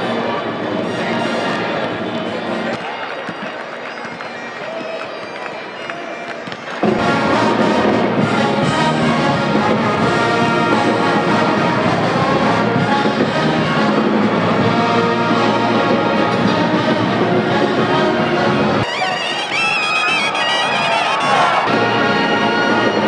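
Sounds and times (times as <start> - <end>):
brass band music: 0.0 - 2.6, 6.8 - 23.0.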